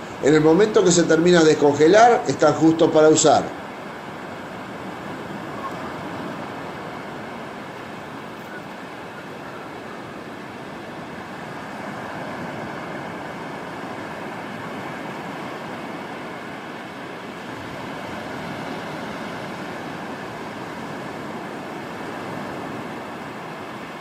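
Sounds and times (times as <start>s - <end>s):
waves breaking on sandy beach: 0.0s - 24.0s.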